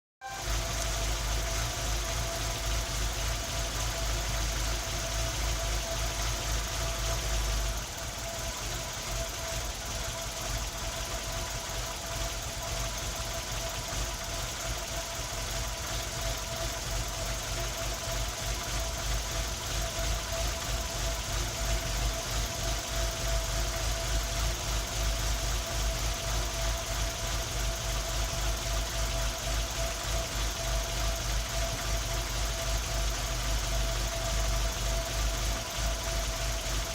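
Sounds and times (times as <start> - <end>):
misfiring car engine idling: 0.2 - 36.9.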